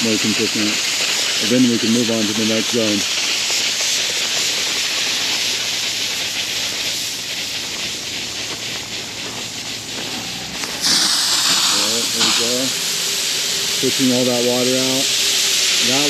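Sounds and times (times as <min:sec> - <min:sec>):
sprinkler heads hissing air and water: 0:00.0 - 0:16.0.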